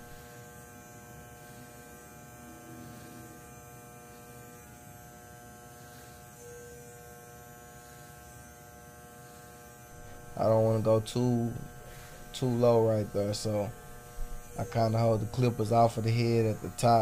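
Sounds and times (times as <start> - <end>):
hair clippers buzzing: 0.0 - 17.0.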